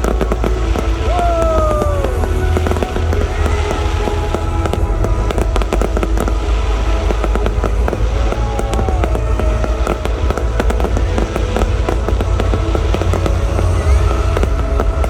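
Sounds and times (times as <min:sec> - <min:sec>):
fireworks crackling bangs: 0:00.0 - 0:15.0
low rumble of bursts: 0:00.0 - 0:15.0
music playing: 0:00.0 - 0:15.0.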